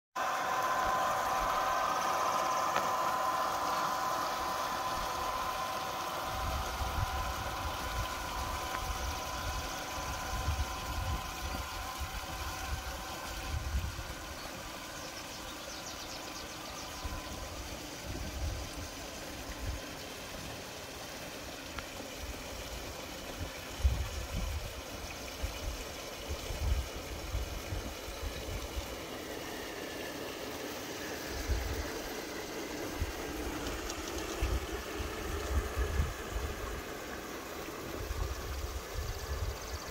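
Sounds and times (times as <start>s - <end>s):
model train humming: 0.2s - 39.9s.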